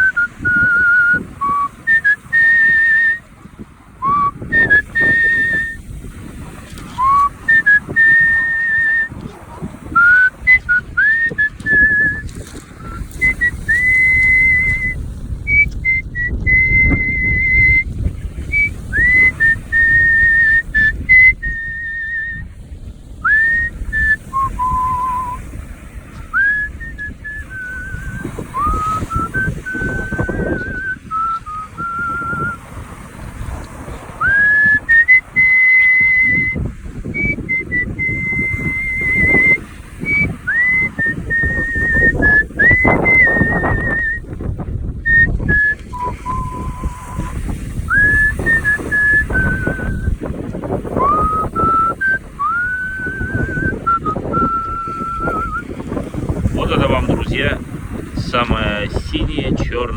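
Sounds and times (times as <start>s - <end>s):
person whistling a melody: 0.0s - 3.2s, 4.0s - 5.8s, 6.9s - 9.3s, 9.9s - 22.4s, 23.2s - 25.5s, 26.3s - 32.6s, 34.2s - 44.2s, 45.0s - 50.2s, 50.8s - 55.7s
low rumbling noise: 0.0s - 59.9s.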